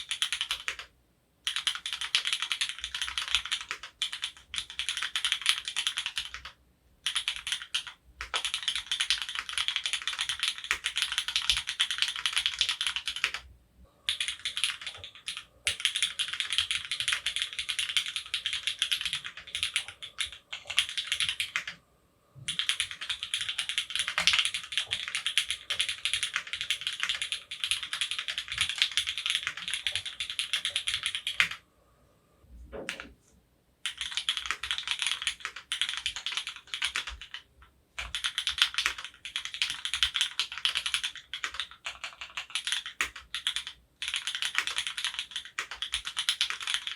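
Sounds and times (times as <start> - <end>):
mechanical keyboard typing: 0.0 - 13.5, 14.1 - 21.8, 22.5 - 31.6, 33.8 - 46.9.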